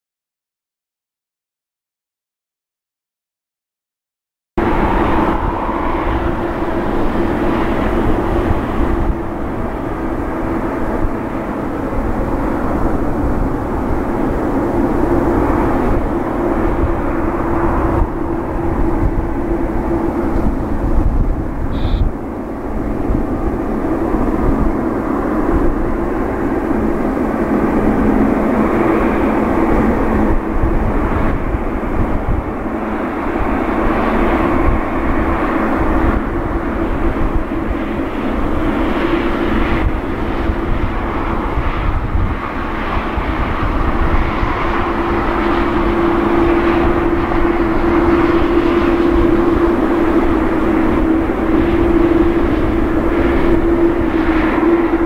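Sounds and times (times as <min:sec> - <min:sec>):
jet engines droning: 0:04.6 - 0:55.0.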